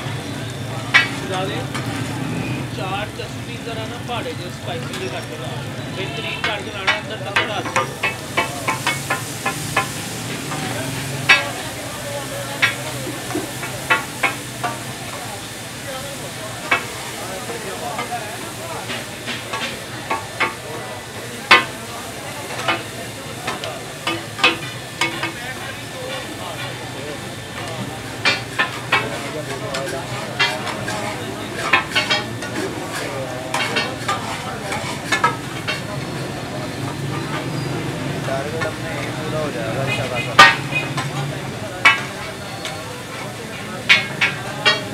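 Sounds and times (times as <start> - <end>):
food sizzling on a griddle: 0.0 - 44.9
metal spatula clinking on griddle: 0.9 - 1.9, 6.0 - 39.2, 39.8 - 44.9.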